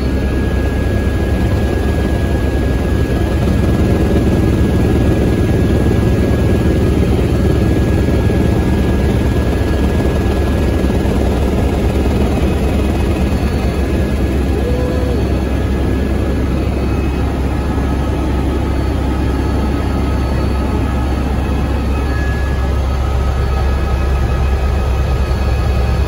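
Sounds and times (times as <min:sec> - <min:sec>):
helicopter rotor and engine drone: 0:00.0 - 0:26.0
thin steady whine: 0:00.0 - 0:26.0.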